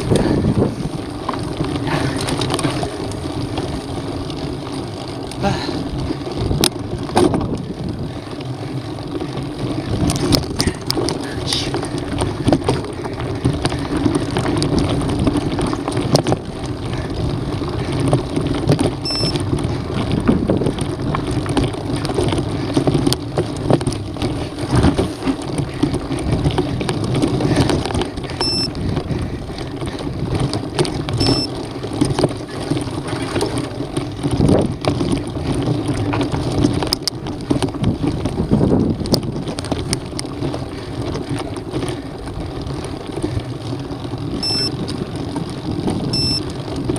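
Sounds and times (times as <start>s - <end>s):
bike clicks and rattles: 0.0s - 46.9s
tyres rolling over dirt and rock: 0.0s - 46.9s
wind buffeting microphone: 0.0s - 46.9s.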